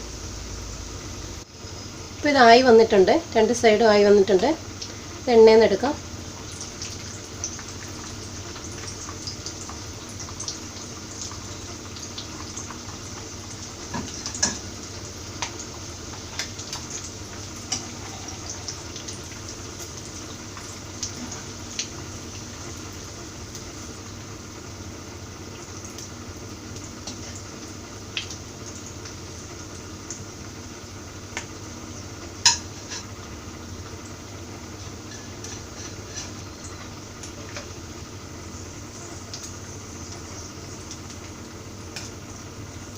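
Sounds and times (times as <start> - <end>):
oil sizzling in a frying pan: 0.0 - 42.9.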